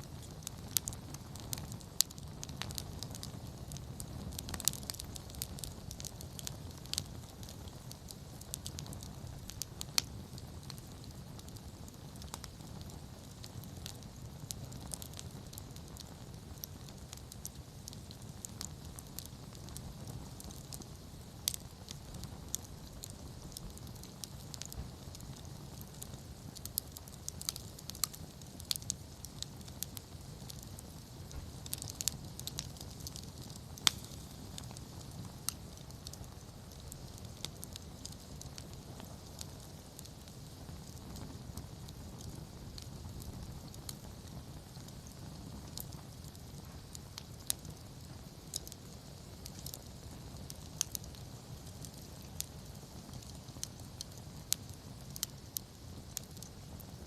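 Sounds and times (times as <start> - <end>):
campfire flame rushing: 0.0 - 57.0
fire crackling and popping: 0.0 - 57.0.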